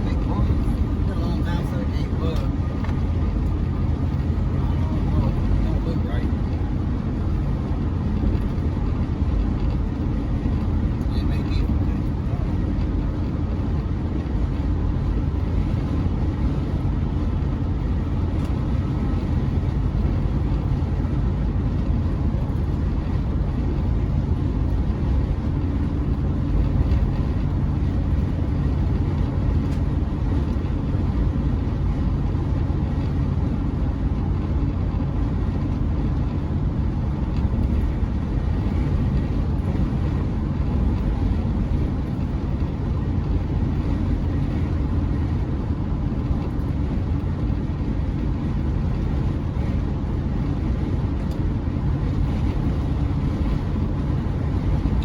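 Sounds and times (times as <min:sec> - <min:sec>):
pickup engine and road noise: 0:00.0 - 0:55.0.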